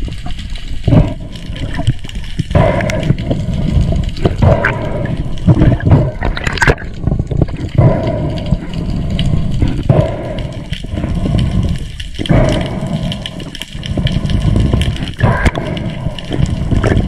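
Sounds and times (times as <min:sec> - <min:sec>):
water rushing around camera: 0:00.0 - 0:17.0.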